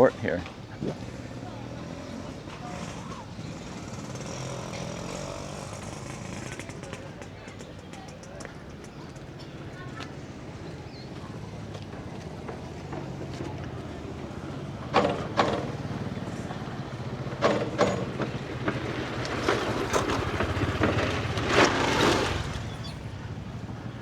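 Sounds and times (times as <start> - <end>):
motorbike engine running: 0.0 - 24.0.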